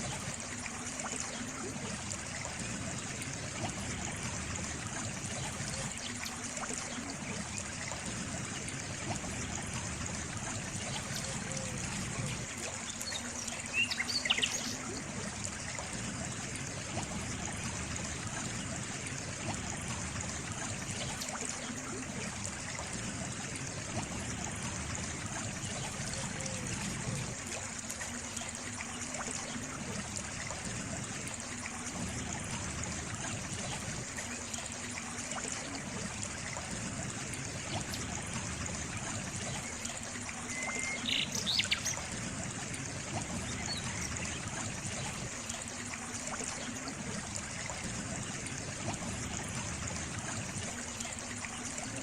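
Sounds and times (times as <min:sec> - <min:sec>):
stream water trickling: 0:00.0 - 0:52.0.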